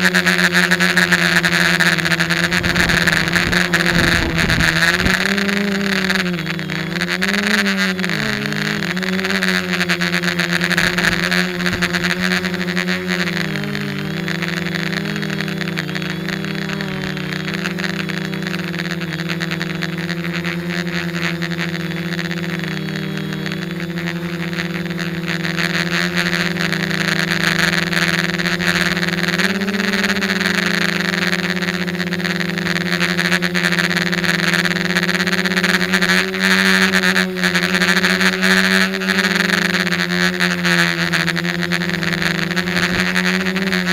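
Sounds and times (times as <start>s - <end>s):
drone motors and propellers droning: 0.0s - 43.9s.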